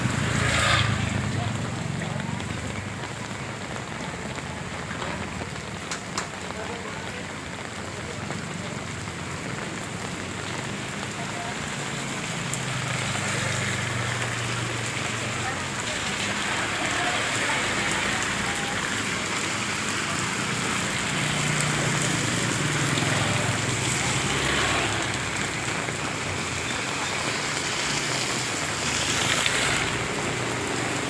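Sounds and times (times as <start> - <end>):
rain pattering: 0.0 - 31.0.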